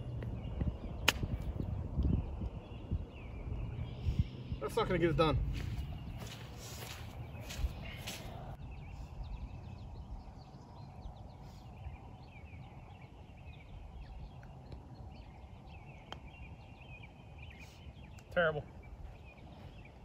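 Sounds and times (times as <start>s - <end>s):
songbirds chirping: 0.0s - 20.0s
wind rumble on microphone: 0.0s - 20.0s.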